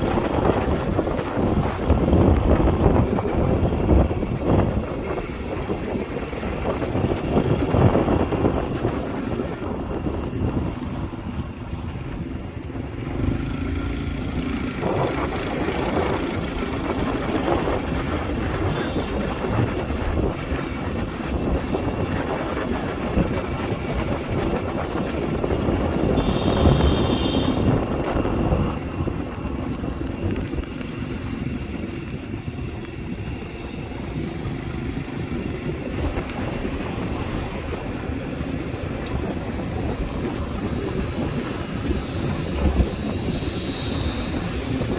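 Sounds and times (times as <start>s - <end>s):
motorbike engine running: 0.0s - 44.9s
wind buffeting microphone: 0.0s - 44.9s.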